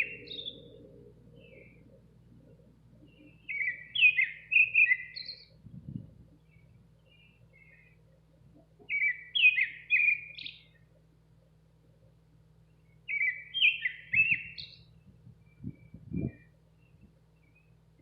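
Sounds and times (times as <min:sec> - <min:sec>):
nightingale singing: 0:00.0 - 0:02.0, 0:03.0 - 0:08.0, 0:08.8 - 0:10.9, 0:12.7 - 0:18.0.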